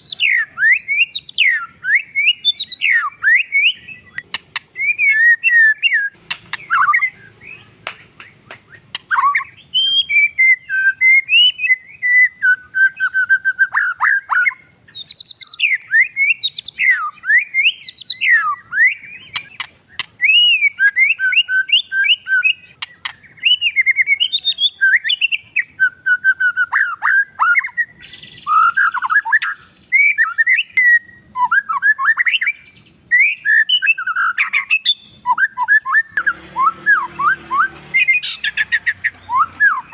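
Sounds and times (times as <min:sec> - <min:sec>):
songbird whistled song: 0:00.0 - 0:39.9.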